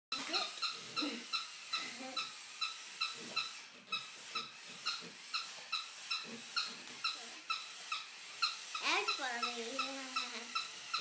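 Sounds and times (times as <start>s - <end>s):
squeaky toy squeaking: 0.1s - 11.0s.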